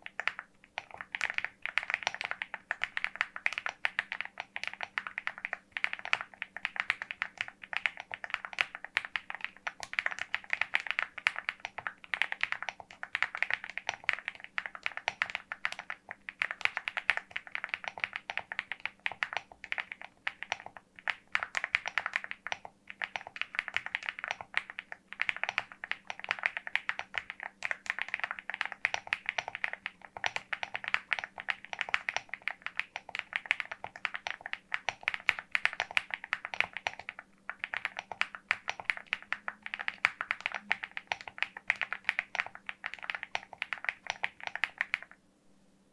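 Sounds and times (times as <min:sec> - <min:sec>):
mechanical keyboard typing: 0:00.0 - 0:45.2.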